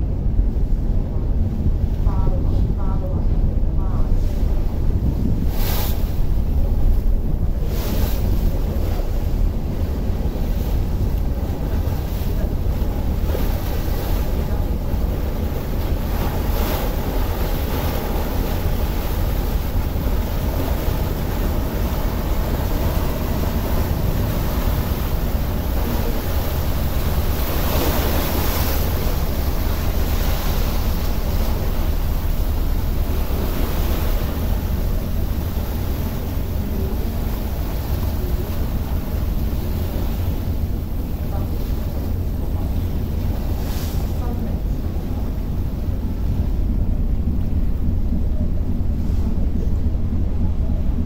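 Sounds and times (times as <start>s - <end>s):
steady low rumble: 0.0s - 51.0s
water washing past hull: 0.0s - 51.0s
wind buffeting microphone: 0.0s - 51.0s.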